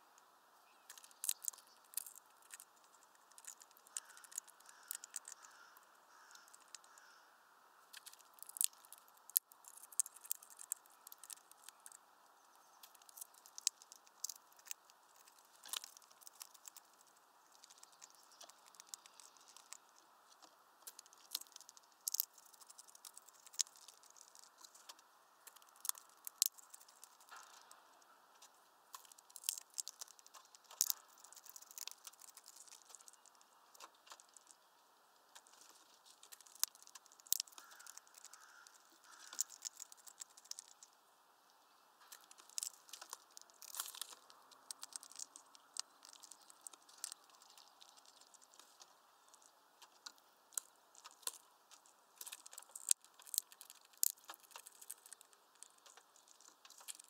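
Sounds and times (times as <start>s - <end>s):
bird cracking seeds: 0.8s - 7.2s, 7.9s - 34.7s, 35.3s - 41.0s, 42.0s - 57.0s.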